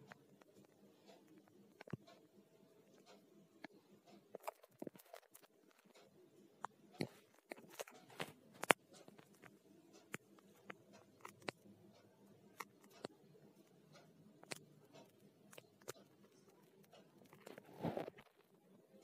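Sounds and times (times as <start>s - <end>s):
low steady hum: 0.0s - 19.0s
small clicks and ticks: 0.0s - 19.0s.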